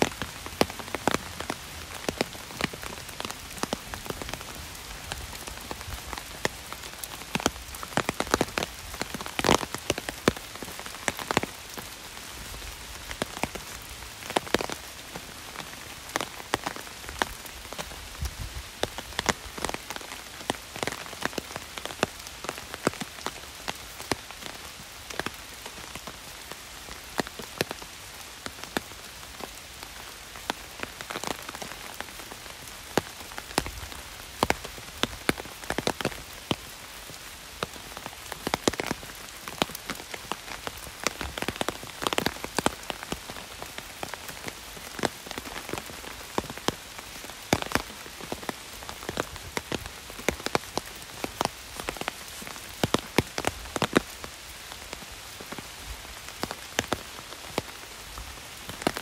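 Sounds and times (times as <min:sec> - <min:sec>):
heavy rain on an umbrella: 0:00.0 - 0:59.0.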